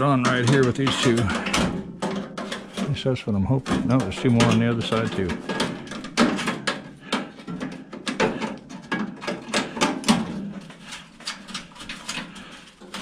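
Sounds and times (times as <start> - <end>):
tools clattering on metal chassis: 0.0 - 13.0.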